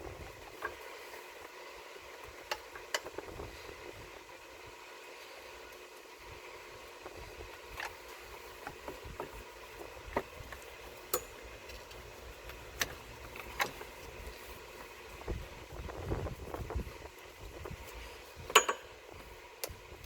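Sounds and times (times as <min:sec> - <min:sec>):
engine parts clicking and knocking: 0:00.0 - 0:04.0, 0:06.9 - 0:20.0.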